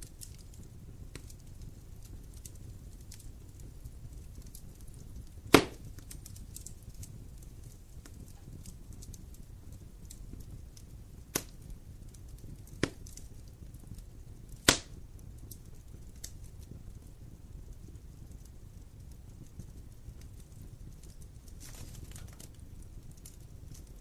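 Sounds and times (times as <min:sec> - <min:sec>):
sharp fire pops: 0:00.0 - 0:24.0
wood fire crackling: 0:00.0 - 0:24.0.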